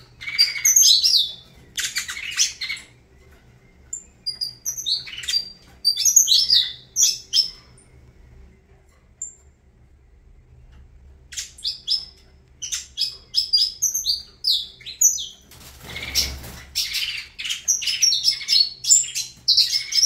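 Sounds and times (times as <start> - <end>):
finch chirps and trills: 0.0 - 9.6, 10.7 - 20.0.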